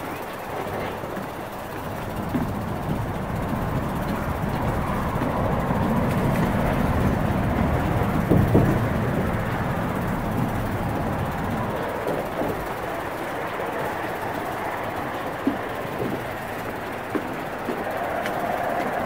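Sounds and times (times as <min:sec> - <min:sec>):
bicycle tyres rattling on wooden deck: 0:00.0 - 0:19.0.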